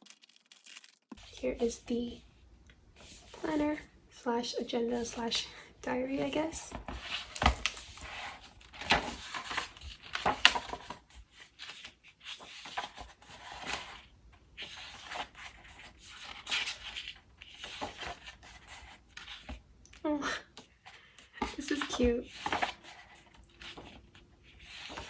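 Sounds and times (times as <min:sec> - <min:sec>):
paper pages rustling: 0:00.0 - 0:02.2, 0:04.9 - 0:19.6, 0:20.8 - 0:25.0.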